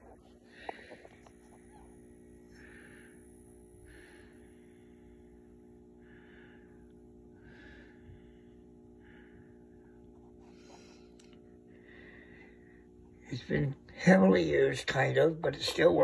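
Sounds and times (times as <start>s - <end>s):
soft breathing: 0.0s - 13.2s
fluorescent lamp hum: 0.0s - 16.0s.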